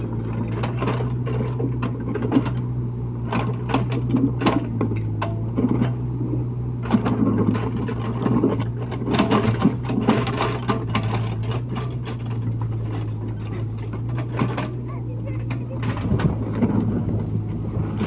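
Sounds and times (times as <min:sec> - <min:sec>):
excavator engine running: 0:00.0 - 0:18.0
knocks and clatter on road: 0:00.0 - 0:18.0.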